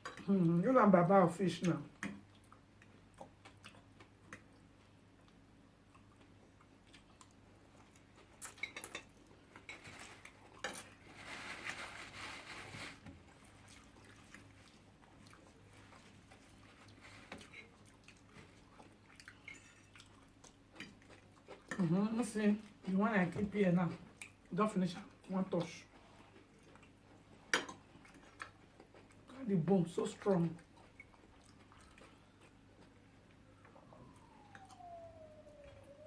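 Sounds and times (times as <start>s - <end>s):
quiet chewing: 2.0s - 11.6s, 13.1s - 22.0s, 24.0s - 29.4s, 30.2s - 36.0s.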